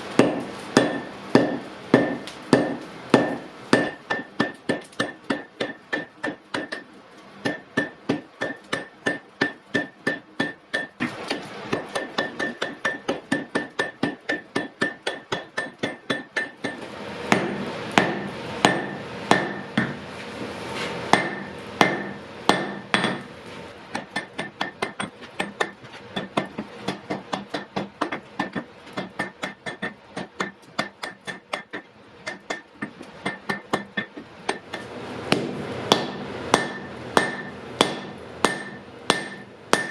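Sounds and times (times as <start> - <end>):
hammer blows on anvil: 0.2 - 20.0, 21.1 - 23.3, 24.0 - 39.9.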